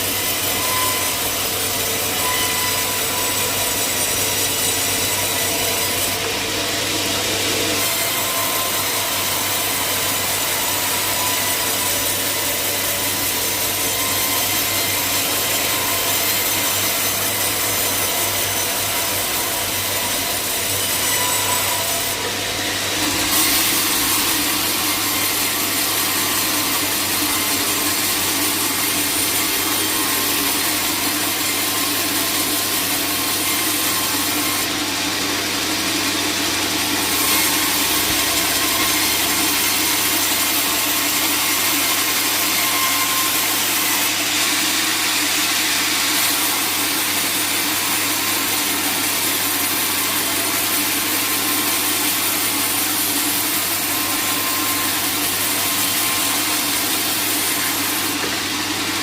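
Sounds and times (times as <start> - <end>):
saw cutting through log: 0.0 - 59.0.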